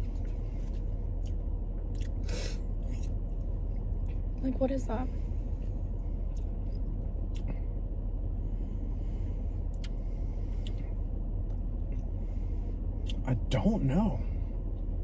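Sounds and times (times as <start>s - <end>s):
low rumble inside car: 0.0s - 15.0s.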